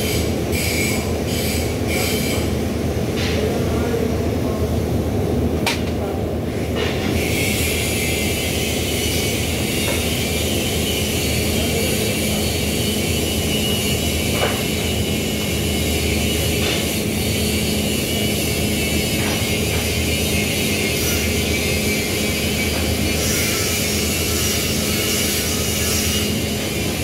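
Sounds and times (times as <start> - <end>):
workshop low hum: 0.0 - 27.0.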